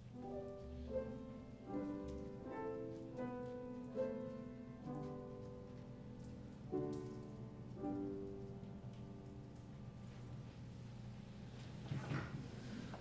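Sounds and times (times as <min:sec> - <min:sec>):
church music on keyboard: 0:00.0 - 0:11.5.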